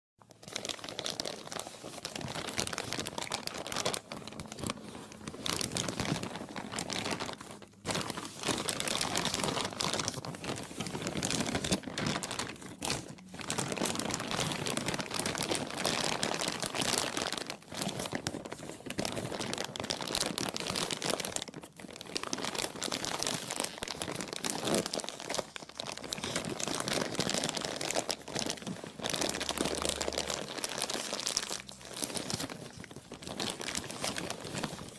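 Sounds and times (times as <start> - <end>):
plastic crumpling: 0.2 - 34.9.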